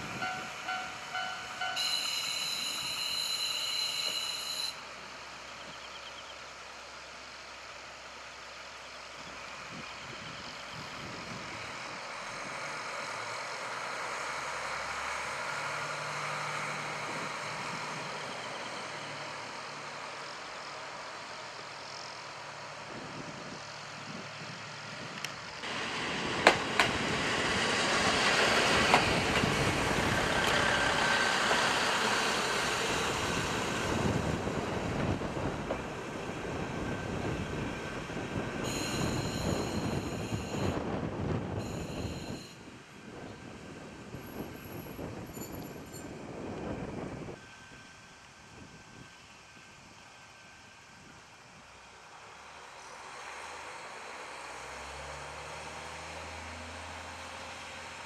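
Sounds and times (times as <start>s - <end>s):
diesel railcar engine: 0.0s - 58.0s
wheels rumbling on rails: 0.0s - 58.0s.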